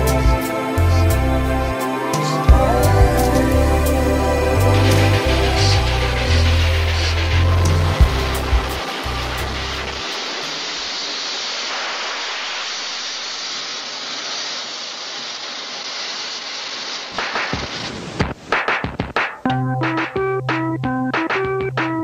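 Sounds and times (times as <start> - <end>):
steam rushing hiss: 0.0 - 18.8.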